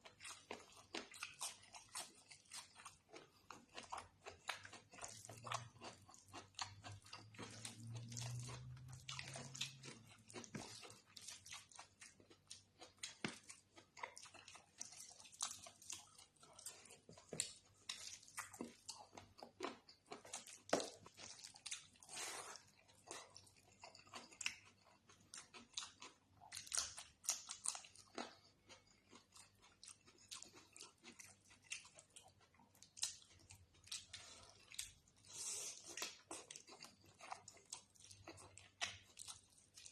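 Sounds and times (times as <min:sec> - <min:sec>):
food crunching: 0:00.0 - 0:39.9
person chewing and smacking: 0:00.0 - 0:39.9.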